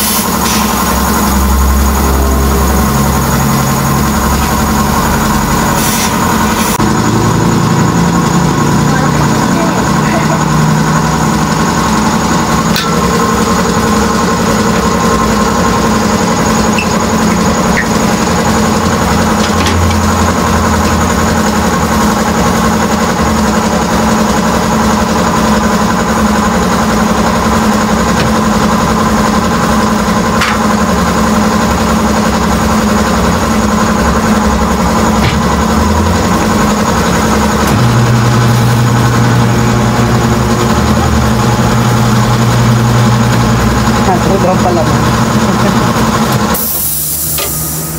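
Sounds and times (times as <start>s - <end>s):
loud motor drone: 0.0s - 47.9s.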